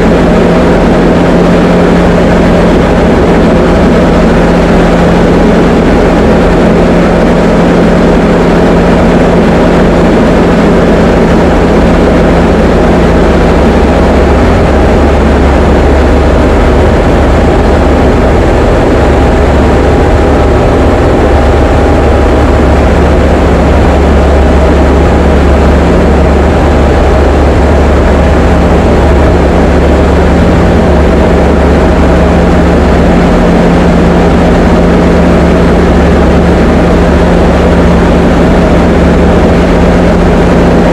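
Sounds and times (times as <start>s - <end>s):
light aircraft engine drone: 0.0s - 40.9s.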